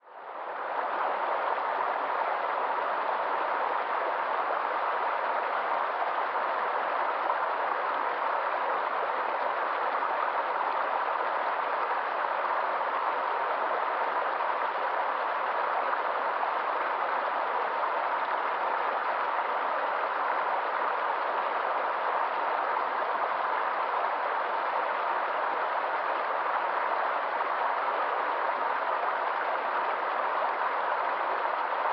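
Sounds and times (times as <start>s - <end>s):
flowing water rushing: 0.1s - 31.9s.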